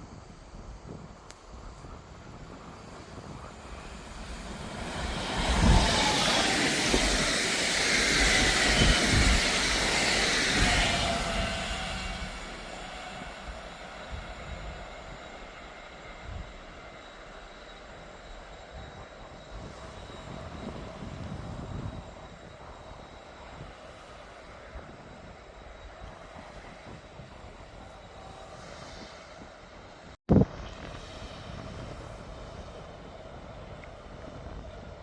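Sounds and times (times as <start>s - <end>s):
passing train: 0.0s - 35.0s.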